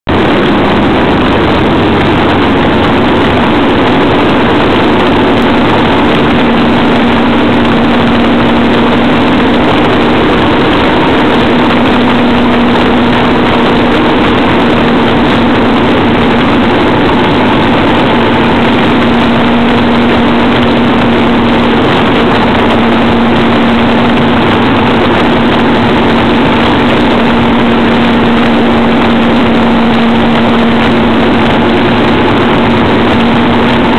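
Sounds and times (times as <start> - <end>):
motorcycle engine running: 0.0 - 33.9
rush of wind noise: 0.0 - 33.9.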